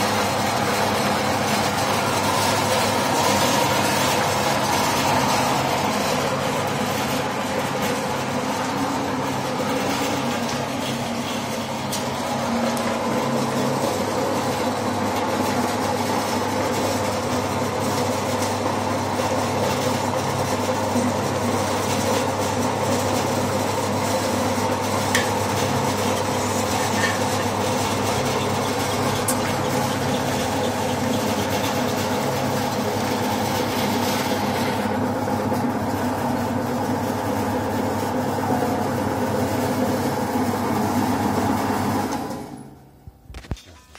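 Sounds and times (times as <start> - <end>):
slicing machine humming: 0.0 - 43.9.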